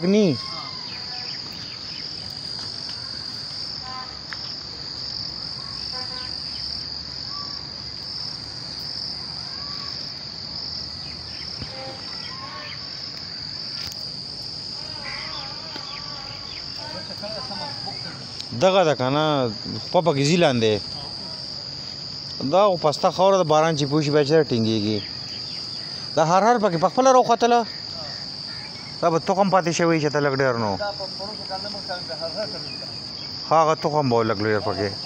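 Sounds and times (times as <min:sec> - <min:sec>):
insect chorus trilling: 0:00.0 - 0:35.0.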